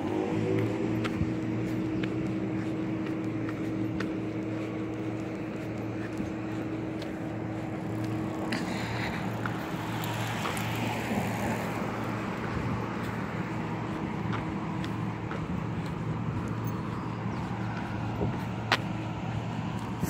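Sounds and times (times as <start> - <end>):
car passing: 0.0 - 20.0
road traffic hum: 0.0 - 20.0.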